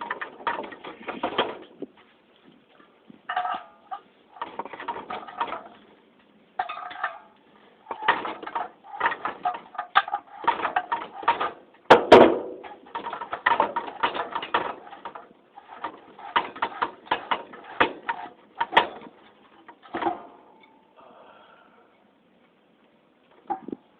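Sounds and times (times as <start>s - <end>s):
metal parts and tools clattering: 0.0s - 1.8s, 2.8s - 5.9s, 6.6s - 20.9s.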